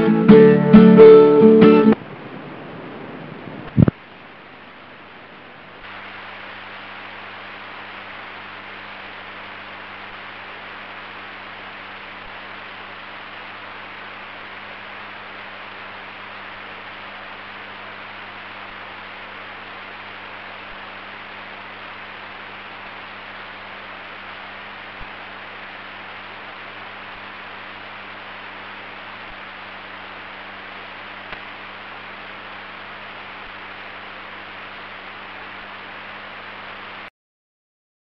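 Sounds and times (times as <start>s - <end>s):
low mains hum: 0.0s - 37.1s
steady hiss: 0.0s - 37.1s.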